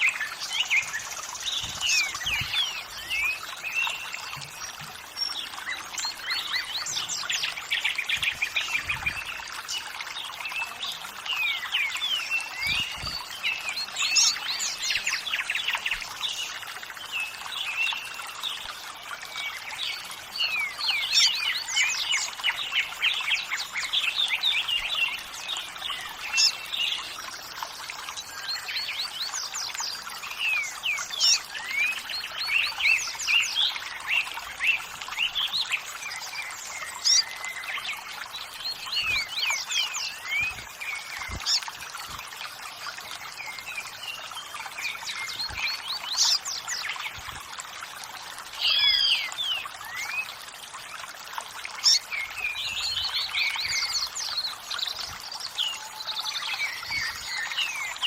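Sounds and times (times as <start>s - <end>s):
running water: 0.0s - 58.0s
songbirds chirping: 0.0s - 58.0s.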